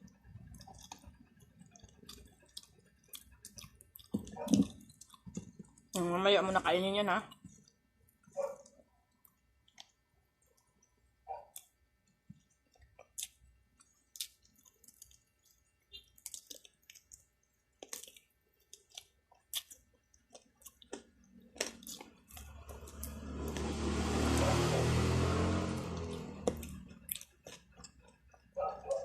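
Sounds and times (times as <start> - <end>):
chewing and lip smacking: 0.0 - 6.0, 7.3 - 23.8, 25.9 - 29.0.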